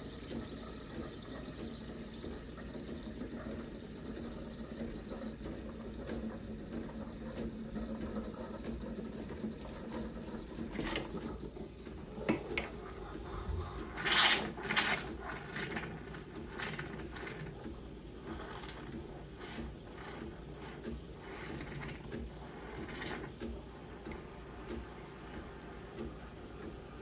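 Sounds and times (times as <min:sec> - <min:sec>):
espresso machine pump buzzing: 0:00.0 - 0:27.0.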